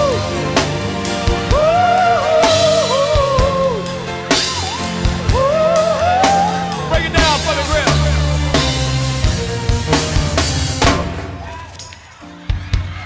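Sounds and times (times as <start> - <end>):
sliding lead melody: 0.0 - 11.4
drum kit slow beat: 0.0 - 11.6.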